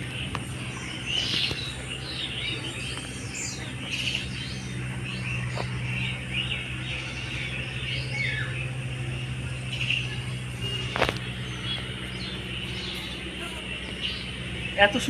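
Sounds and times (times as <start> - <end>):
birds chirping: 0.0 - 15.0
low engine hum: 0.0 - 15.0.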